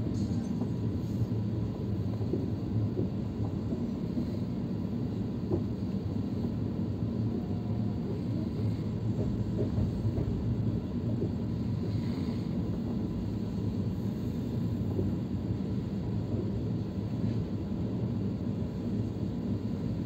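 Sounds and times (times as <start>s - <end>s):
train coach rumbling: 0.0s - 20.0s.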